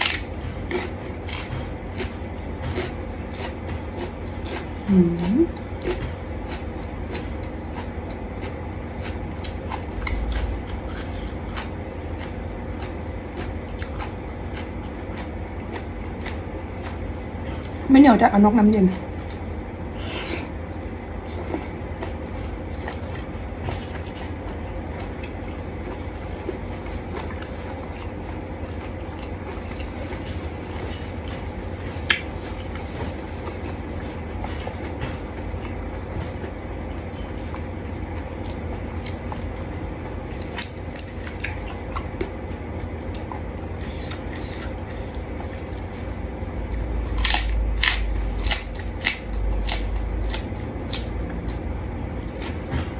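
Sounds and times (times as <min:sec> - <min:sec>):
person chewing food: 0:00.0 - 0:17.9, 0:18.9 - 0:52.9
steady low hum: 0:00.0 - 0:52.9.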